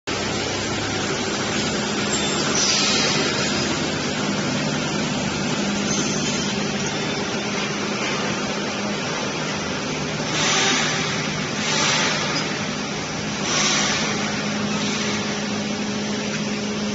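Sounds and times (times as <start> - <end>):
wire bending machine hum: 0.1 - 16.9.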